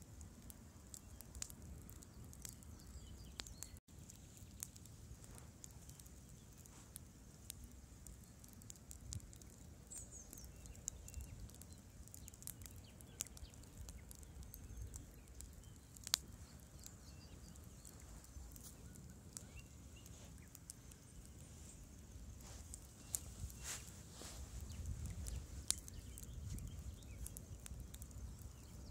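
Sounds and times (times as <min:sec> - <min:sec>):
campfire crackling: 0:00.0 - 0:28.9.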